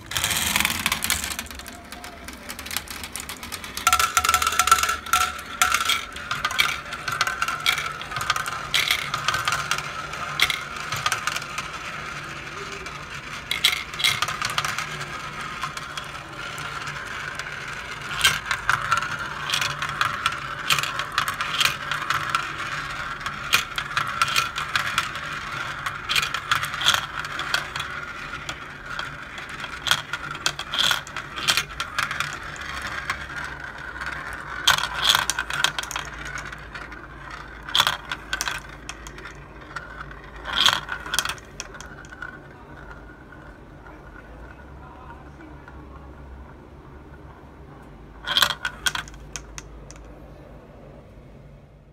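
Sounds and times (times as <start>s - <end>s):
marbles clicking together: 0.0s - 45.9s, 48.2s - 50.1s
marbles rolling in plastic bowls: 0.0s - 50.2s.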